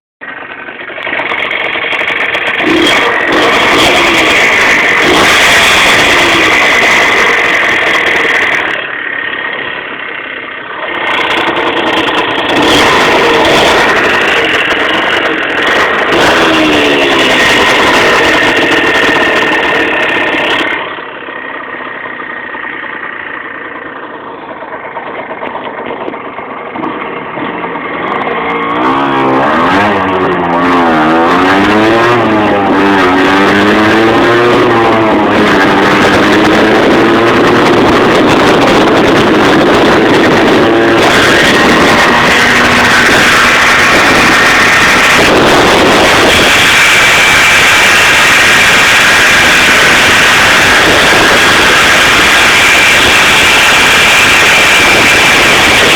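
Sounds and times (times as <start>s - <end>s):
moped engine revving: 0.2s - 55.9s.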